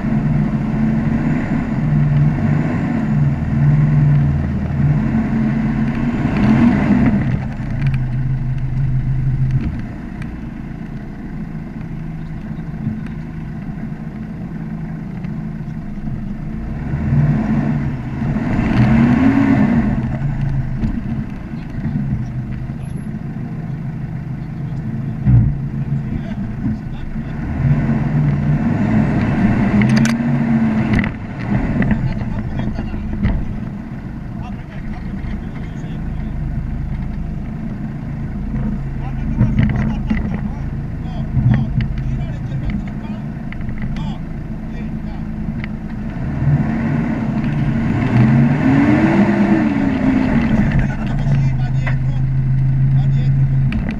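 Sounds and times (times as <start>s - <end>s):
vehicle engine revving and idling: 0.0s - 53.9s.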